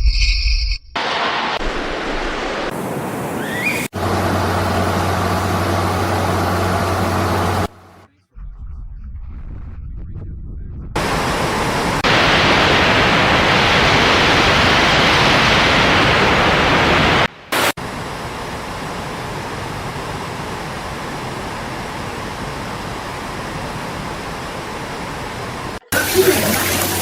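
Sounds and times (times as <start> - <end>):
water rushing: 1.0 - 8.1, 11.0 - 27.0.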